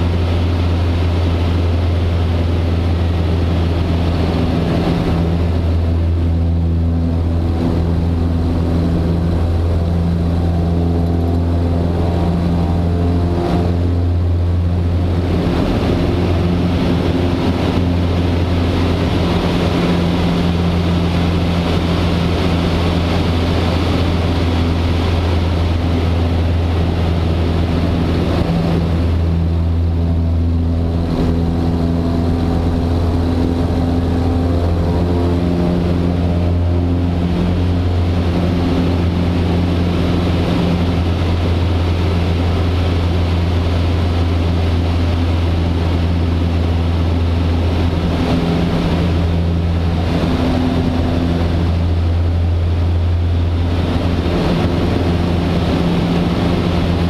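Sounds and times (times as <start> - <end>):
airplane engine droning: 0.0 - 57.0
wind rushing over airframe: 0.0 - 57.0.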